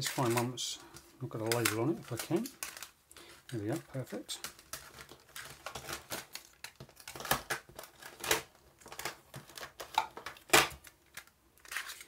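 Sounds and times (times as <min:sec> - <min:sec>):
plastic cases clicking and clattering: 0:00.0 - 0:12.0.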